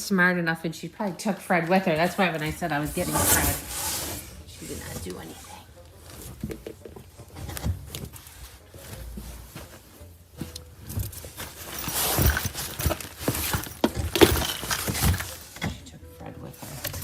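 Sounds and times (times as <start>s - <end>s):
footsteps: 1.0s - 15.5s
knocks and rustling of rummaging: 1.0s - 17.0s.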